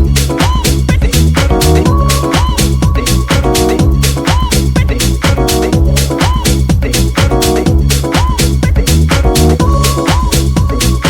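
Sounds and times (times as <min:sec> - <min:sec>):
dance music with fast beat: 0:00.0 - 0:11.0.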